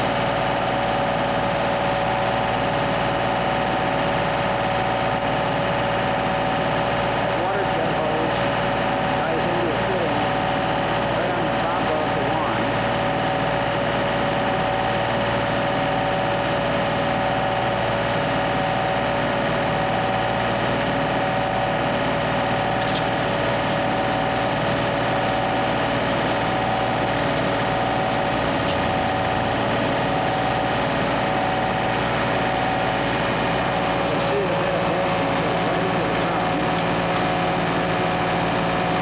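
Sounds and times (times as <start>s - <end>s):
steady whine: 0.0s - 39.0s
vacuum excavator droning: 0.0s - 39.0s.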